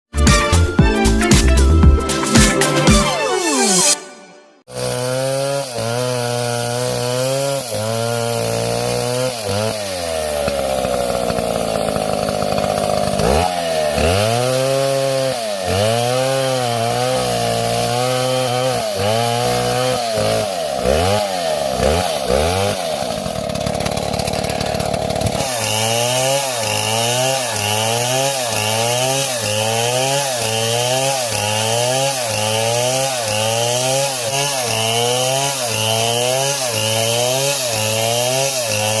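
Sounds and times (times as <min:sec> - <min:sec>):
chainsaw engine revving: 0:04.7 - 0:39.0.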